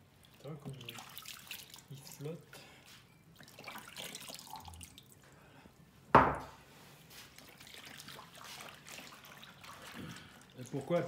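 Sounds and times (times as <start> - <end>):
hands sloshing water in flour: 0.0 - 5.2, 6.6 - 11.0.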